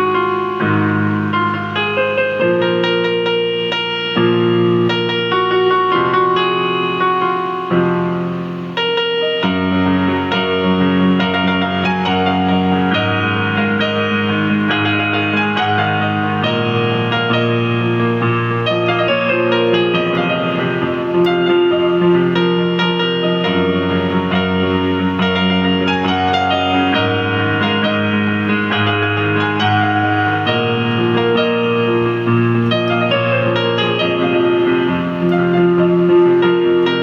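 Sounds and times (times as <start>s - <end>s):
piano-like synthesizer: 0.0s - 37.0s.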